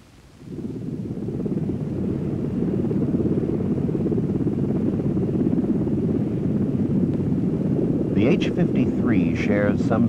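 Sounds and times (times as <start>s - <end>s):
helicopter rotor rumble: 0.0s - 10.0s.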